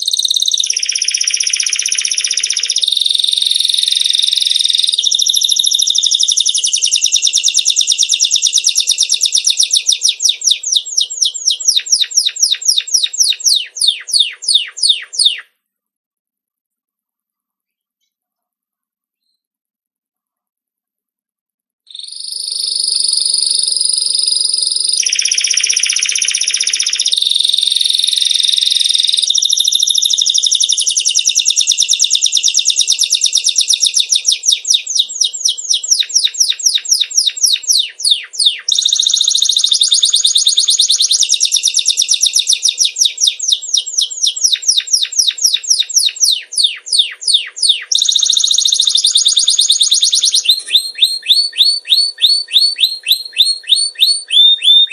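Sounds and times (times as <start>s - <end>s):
songbird fast high trills: 0.0s - 15.5s, 21.9s - 54.9s.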